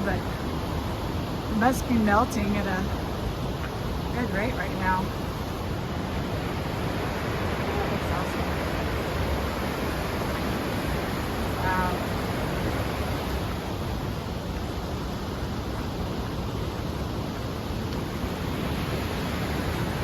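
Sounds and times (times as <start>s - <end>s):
mountain creek rushing: 0.0s - 20.0s.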